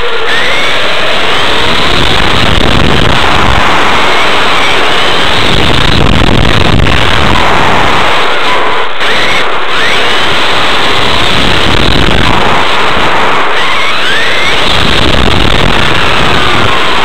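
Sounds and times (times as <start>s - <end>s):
electric motor whine: 0.0s - 17.0s
rc car tyre and wind rush: 0.0s - 17.0s.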